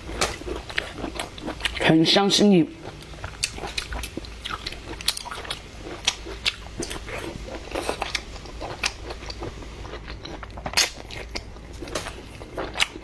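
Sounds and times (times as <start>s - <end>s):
chewing and biting food: 0.0s - 1.9s, 2.8s - 13.0s.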